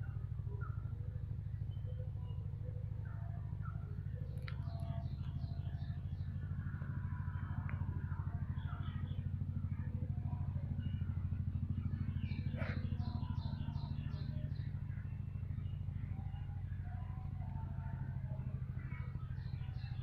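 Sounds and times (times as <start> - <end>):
birds chirping: 0.0 - 20.0
engine idling: 0.0 - 20.0.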